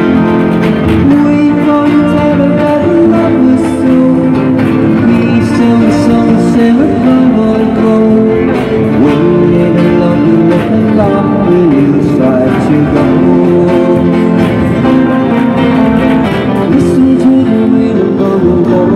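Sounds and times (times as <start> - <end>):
live band playing pop song: 0.0 - 18.9.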